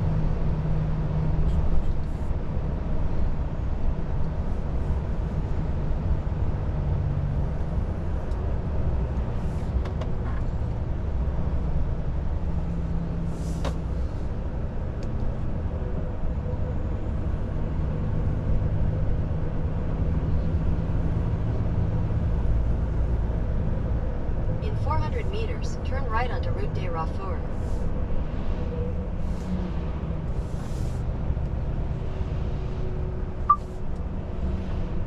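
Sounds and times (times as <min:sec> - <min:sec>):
road rumble: 0:00.0 - 0:35.0.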